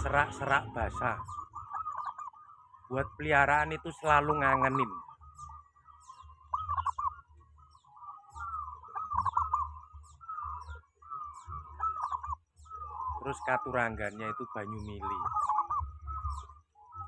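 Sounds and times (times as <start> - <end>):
dove cooing: 0.0 - 17.0
small birds chirping: 0.0 - 17.0.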